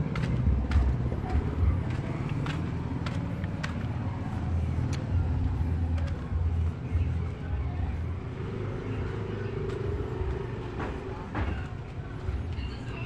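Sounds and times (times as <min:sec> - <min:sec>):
footsteps on concrete: 0:00.0 - 0:13.0
low traffic rumble: 0:00.0 - 0:13.0.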